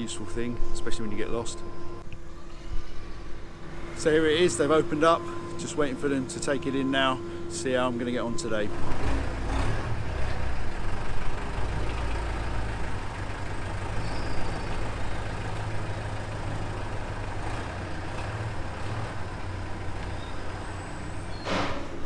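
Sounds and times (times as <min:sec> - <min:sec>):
diesel truck engine running: 0:03.5 - 0:22.0.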